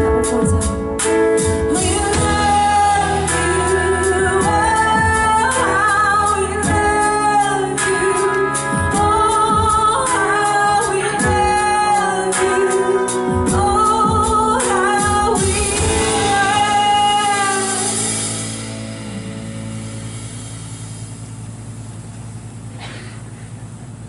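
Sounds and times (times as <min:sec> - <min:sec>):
live worship band music: 0:00.0 - 0:23.2.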